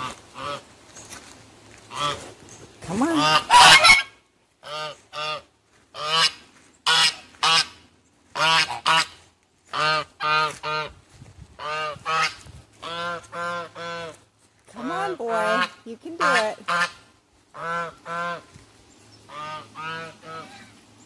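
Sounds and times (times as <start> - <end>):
geese honking: 0.0 - 0.8, 1.8 - 11.0, 11.6 - 18.6, 19.2 - 21.0.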